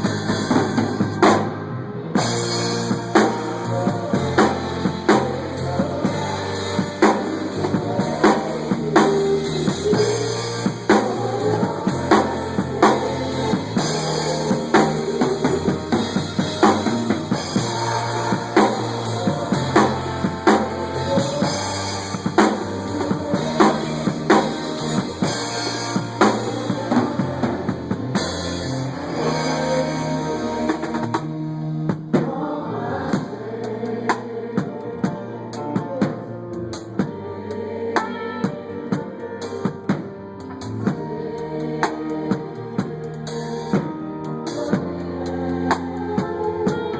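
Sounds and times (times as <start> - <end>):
drum kit and bass beat: 0.0 - 32.5, 38.0 - 46.9.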